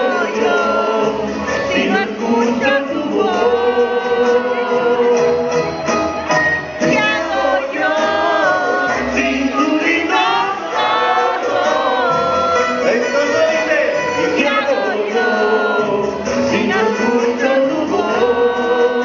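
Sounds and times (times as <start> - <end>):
men singing into microphones: 0.0 - 6.1, 6.8 - 19.0
amplified backing music: 0.0 - 19.0.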